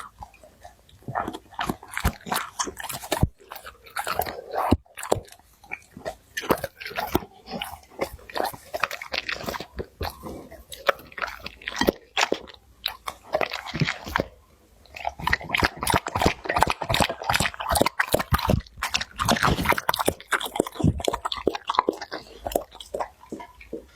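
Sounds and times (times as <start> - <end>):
dog crunching and chewing food: 0.0 - 23.9.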